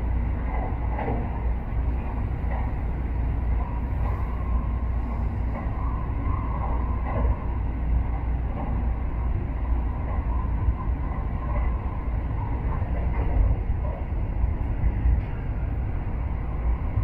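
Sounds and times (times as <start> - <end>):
bullet train rumbling: 0.0 - 17.0.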